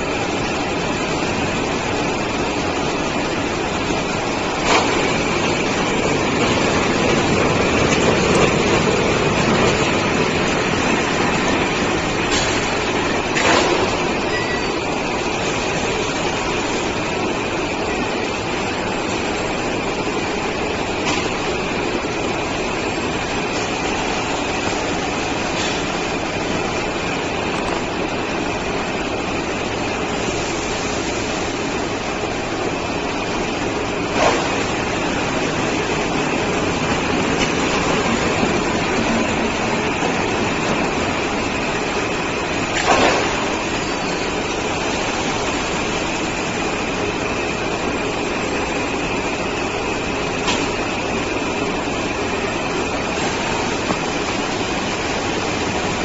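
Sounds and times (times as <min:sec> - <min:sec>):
constant high whine: 0:00.0 - 0:56.0
conveyor machinery din: 0:00.0 - 0:56.0.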